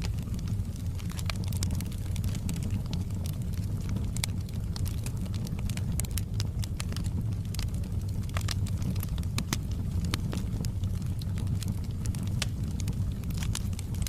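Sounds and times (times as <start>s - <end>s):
low rumble of flames: 0.0s - 14.0s
pops and snaps of burning logs: 0.0s - 14.0s
wood fire crackling: 0.0s - 14.0s.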